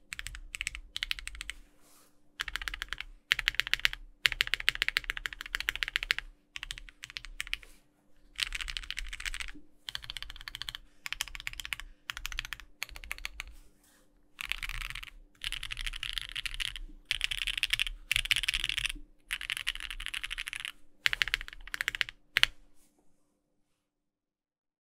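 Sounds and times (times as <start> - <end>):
mechanical keyboard typing: 0.0 - 1.6, 2.4 - 7.7, 8.4 - 13.5, 14.4 - 22.6.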